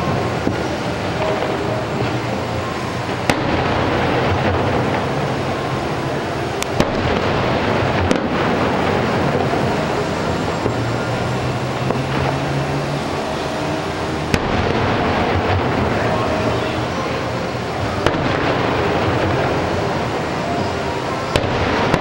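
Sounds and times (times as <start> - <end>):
distant fireworks rumble: 0.0 - 22.0
sharp firework cracks: 0.0 - 22.0.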